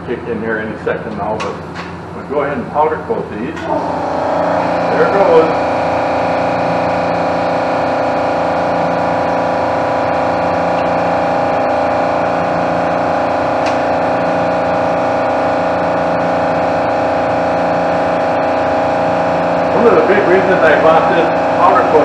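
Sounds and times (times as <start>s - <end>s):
air compressor running: 0.0s - 22.0s
exhaust fan droning: 0.0s - 22.0s.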